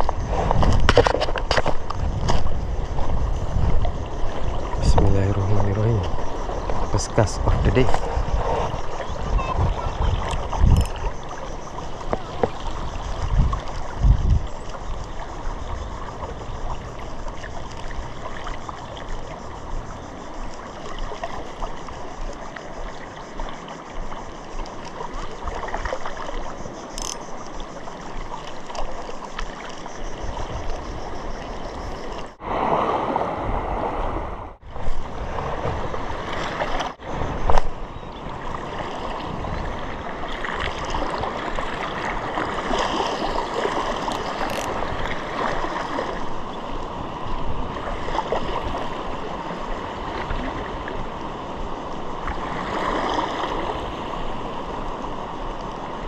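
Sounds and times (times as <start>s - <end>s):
small waves lapping on sand: 0.0s - 56.0s.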